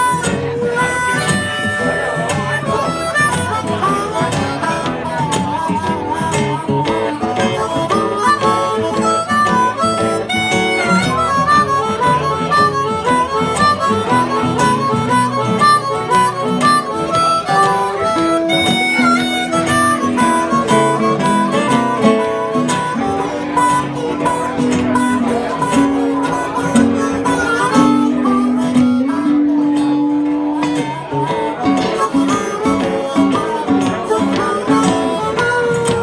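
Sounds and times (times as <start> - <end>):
acoustic guitars accompanying: 0.0 - 36.0
harmonica solo: 0.0 - 36.0.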